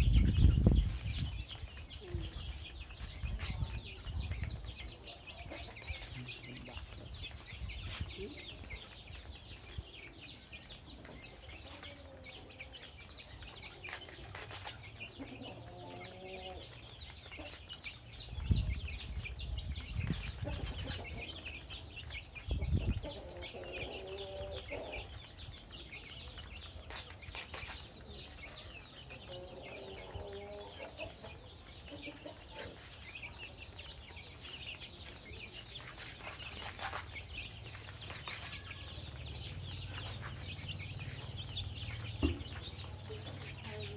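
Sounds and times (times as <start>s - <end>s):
chickens pecking at feed: 0.0s - 43.9s
chicks peeping: 0.0s - 43.9s.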